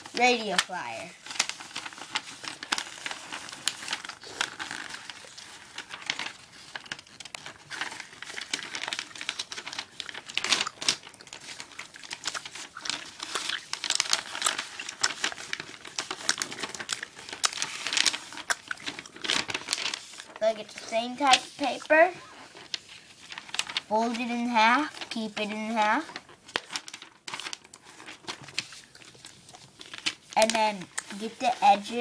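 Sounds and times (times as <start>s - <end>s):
paper crinkling and rustling: 0.0s - 32.0s.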